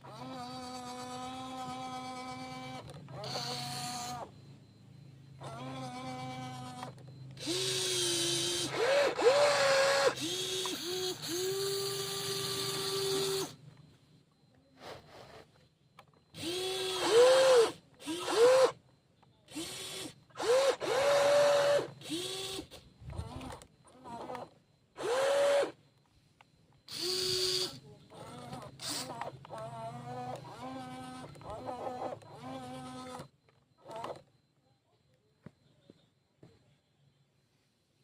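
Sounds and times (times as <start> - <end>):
small electric motors whining: 0.0 - 26.2, 26.8 - 34.4.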